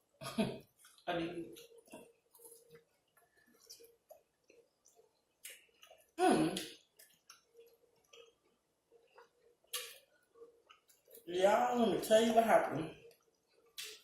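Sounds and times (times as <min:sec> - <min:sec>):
faint chewing: 0:00.6 - 0:11.3, 0:13.0 - 0:14.0.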